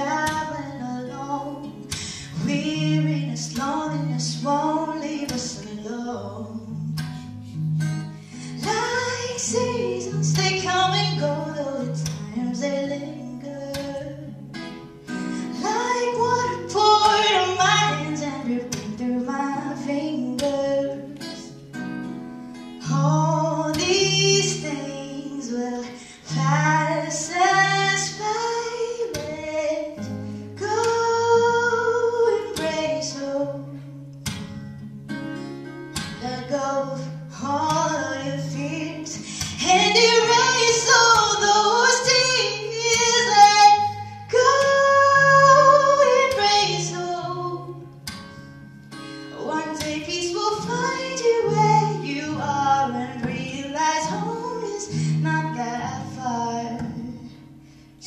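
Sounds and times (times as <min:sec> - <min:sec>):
woman singing: 0:00.0 - 0:34.3, 0:35.6 - 0:58.0
acoustic guitar: 0:00.0 - 0:58.0.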